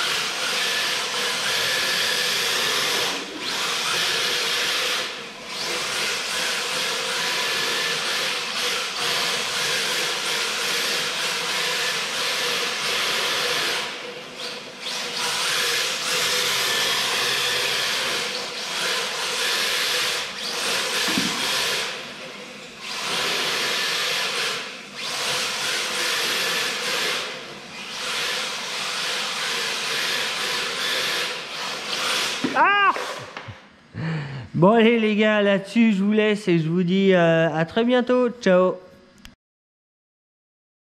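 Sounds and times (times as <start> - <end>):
toy car motor whining: 0.0 - 33.4.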